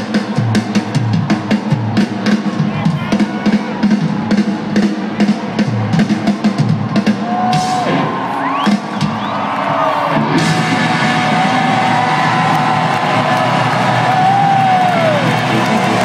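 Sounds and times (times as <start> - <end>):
drum kit beat: 0.0 - 9.4, 10.1 - 16.0
rock band playing live: 0.0 - 16.0.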